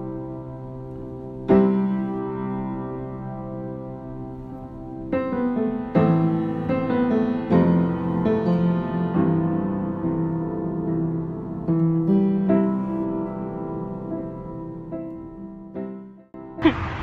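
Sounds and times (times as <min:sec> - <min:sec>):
slow soft piano music: 0:00.0 - 0:16.6.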